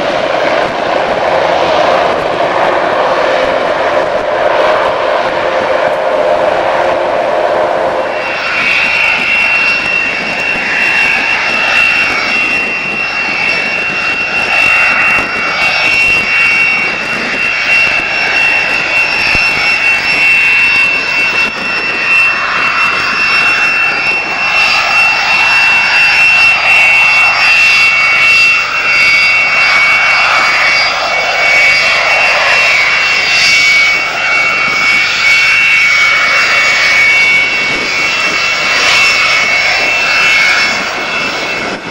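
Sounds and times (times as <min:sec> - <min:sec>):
turbine engine whining: 0:00.0 - 0:41.9.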